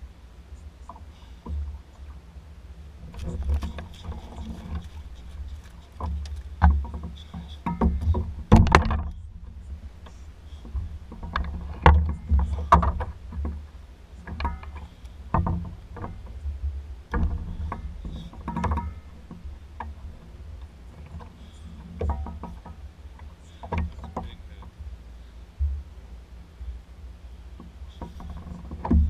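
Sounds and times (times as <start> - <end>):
steady low rumble: 0.0 - 29.0
gear knocking against kayak hull: 3.0 - 25.0, 25.6 - 26.0, 27.5 - 29.0.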